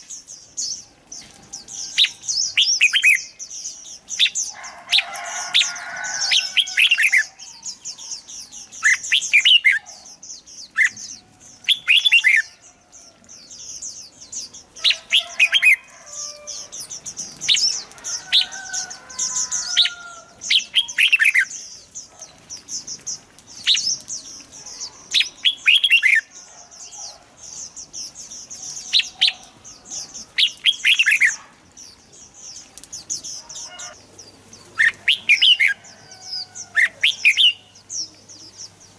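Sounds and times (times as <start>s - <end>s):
bulbuls singing falling phrases: 0.0s - 38.9s.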